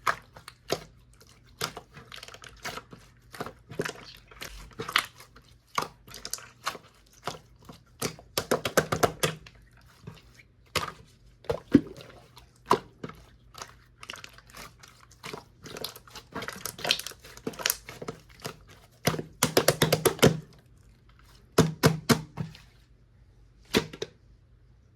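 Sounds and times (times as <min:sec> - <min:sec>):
slime squished by hand: 0:00.0 - 0:22.7.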